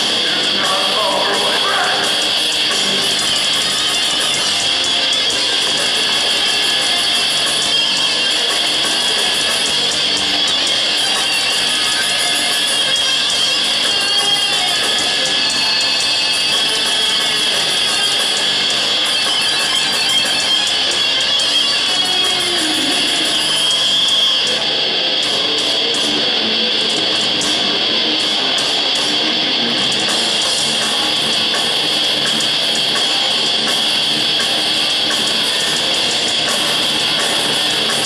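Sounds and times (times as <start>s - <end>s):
distorted electric guitars: 0.0s - 38.0s
drums: 0.0s - 38.0s.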